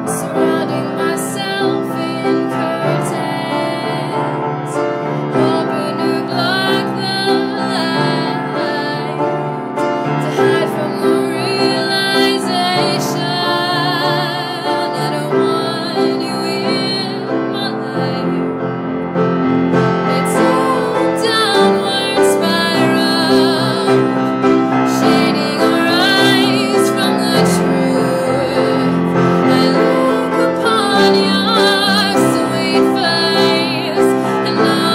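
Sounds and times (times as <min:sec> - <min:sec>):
woman singing with vibrato: 0:00.0 - 0:18.6, 0:20.0 - 0:34.9
piano accompaniment: 0:00.0 - 0:34.9.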